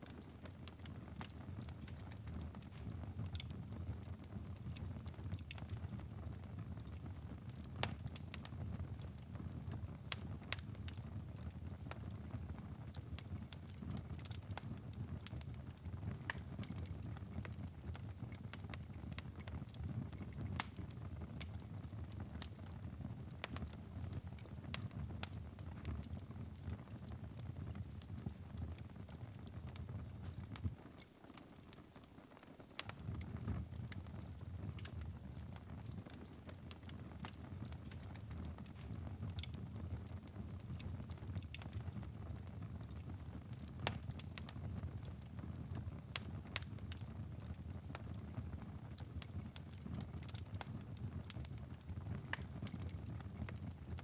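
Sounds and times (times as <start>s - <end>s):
low rumble of flames: 0.0s - 31.0s, 32.7s - 54.0s
fire crackling and popping: 0.0s - 54.0s.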